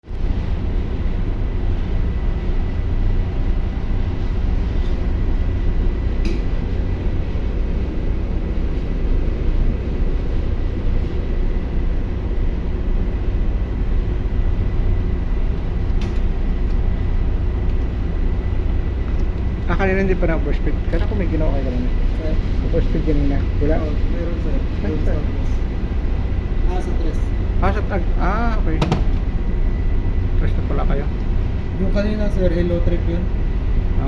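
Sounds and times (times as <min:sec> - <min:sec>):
diesel generator rumbling: 0:00.0 - 0:34.0.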